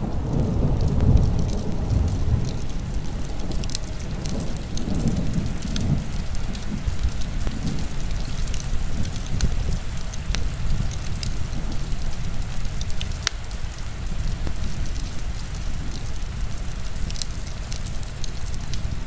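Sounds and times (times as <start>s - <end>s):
heavy rain rushing: 0.0s - 19.0s
wood fire crackling: 0.0s - 19.0s.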